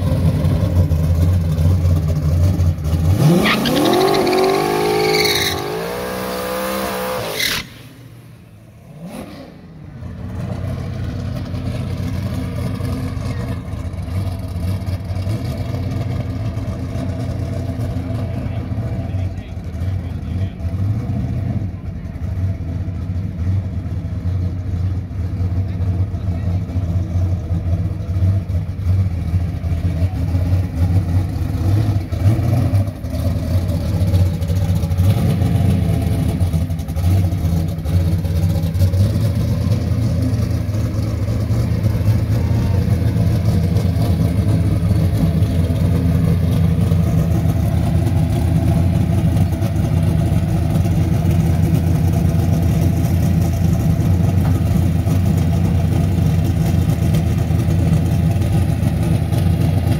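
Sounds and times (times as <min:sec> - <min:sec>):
race car engine idling: 0:00.0 - 0:03.2, 0:09.6 - 0:59.9.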